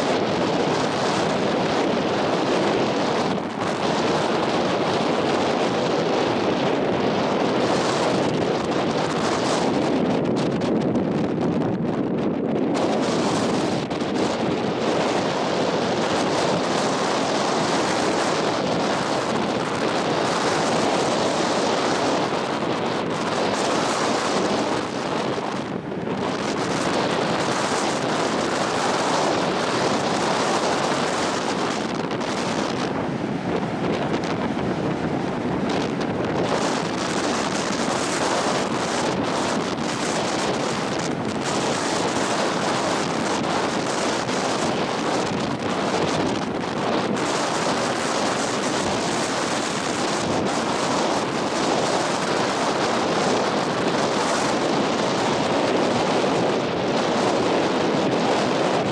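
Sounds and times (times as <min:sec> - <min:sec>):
strong wind buffeting microphone: 0:00.0 - 0:58.9
surf breaking on beach: 0:00.0 - 0:58.9.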